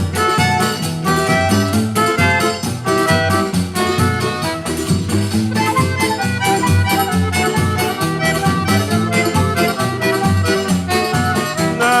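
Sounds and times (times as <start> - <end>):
accordion melody: 0.0 - 12.0
steady beat: 0.0 - 12.0.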